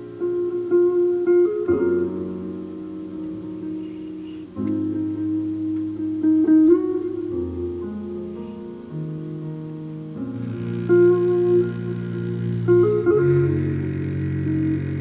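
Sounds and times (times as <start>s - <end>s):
double bass line: 0.0s - 15.0s
electric guitar chords: 0.0s - 15.0s
piano: 0.0s - 15.0s.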